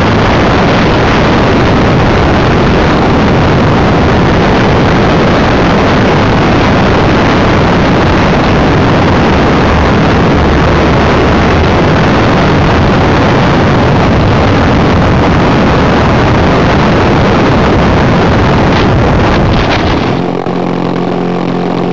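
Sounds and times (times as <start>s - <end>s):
electric propeller whirring: 0.0s - 21.9s
wind rushing: 0.0s - 21.9s.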